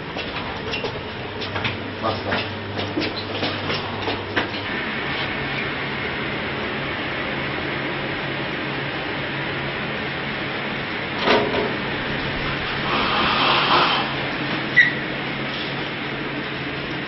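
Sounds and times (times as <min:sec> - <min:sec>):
ventilation whir and hum: 0:00.0 - 0:17.0.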